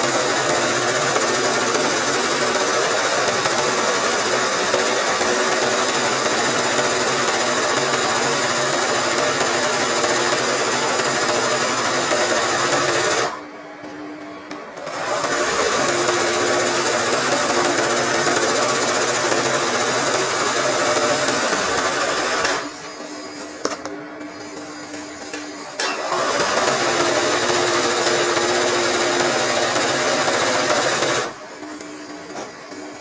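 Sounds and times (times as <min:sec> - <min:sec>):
sewing machine stitching: 0:00.0 - 0:13.4, 0:14.8 - 0:22.9, 0:25.8 - 0:31.4.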